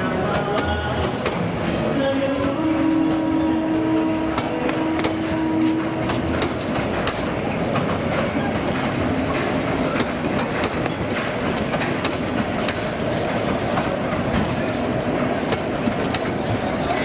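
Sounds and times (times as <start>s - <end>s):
train rumble: 0.0s - 17.0s
train wheels clicking over rail joints: 0.0s - 17.0s.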